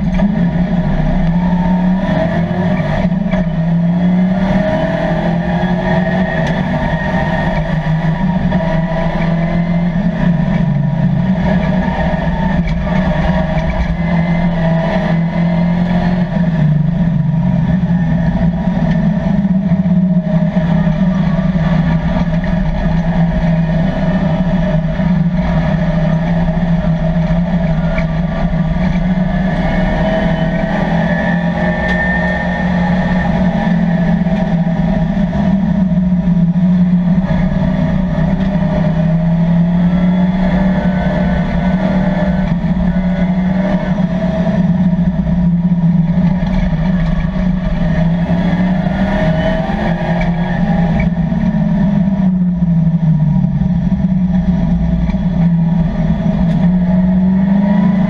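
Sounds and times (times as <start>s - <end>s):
race car engine from cabin: 0.0s - 58.0s.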